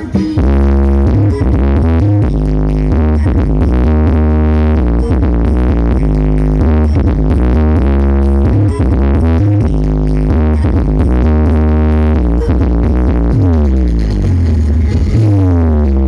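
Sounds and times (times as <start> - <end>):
electronic dance music with bass: 0.0 - 16.0.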